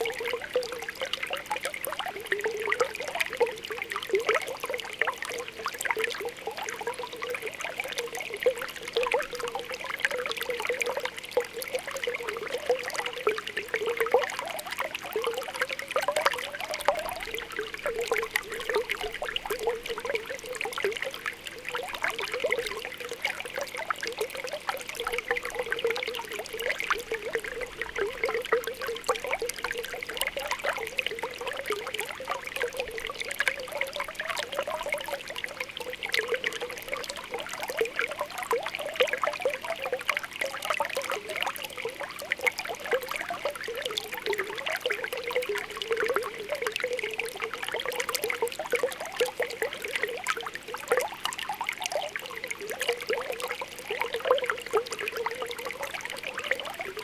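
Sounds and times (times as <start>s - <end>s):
spring water bubbling: 0.0s - 57.0s.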